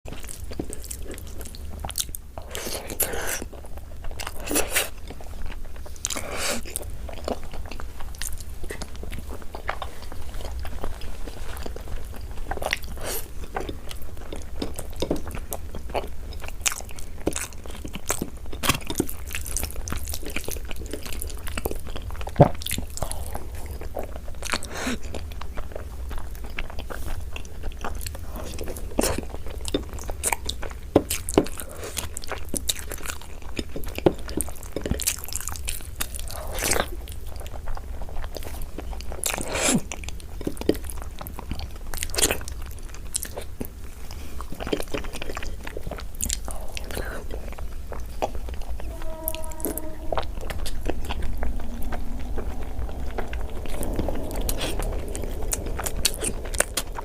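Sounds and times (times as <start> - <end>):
crackles and clicks: 0.1 - 57.0
low steady hum: 0.1 - 57.0.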